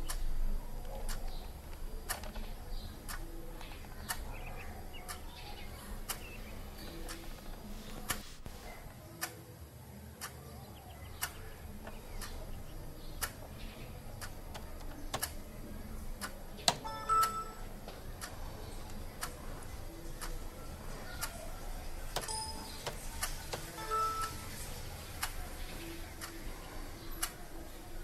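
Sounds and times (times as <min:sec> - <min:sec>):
clock ticking: 0:00.0 - 0:09.3, 0:11.0 - 0:28.0.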